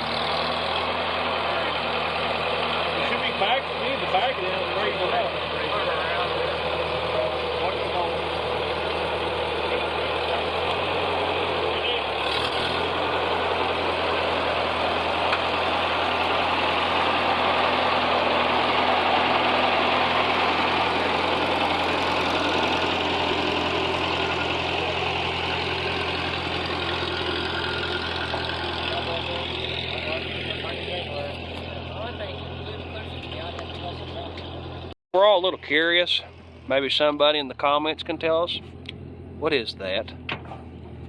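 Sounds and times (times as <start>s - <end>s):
tractor engine idling: 0.0s - 41.0s.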